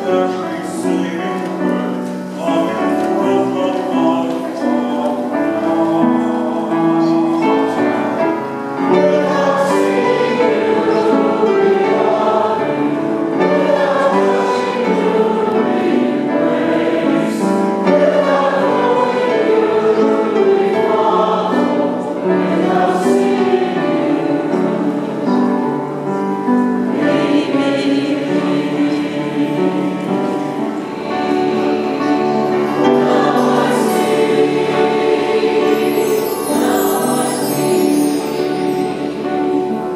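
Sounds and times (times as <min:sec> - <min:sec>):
church choir singing: 0:00.0 - 0:39.9
instrumental accompaniment: 0:00.0 - 0:39.9.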